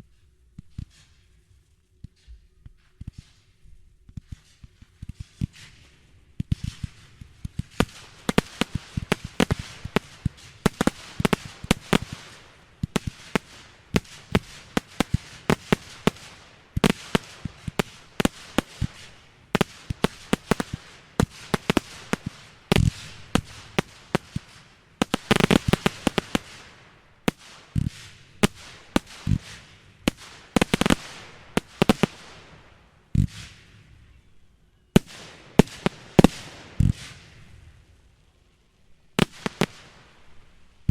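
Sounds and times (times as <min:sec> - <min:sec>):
fireworks bangs and crackles: 0:02.9 - 0:34.2, 0:34.9 - 0:38.0, 0:39.1 - 0:40.9.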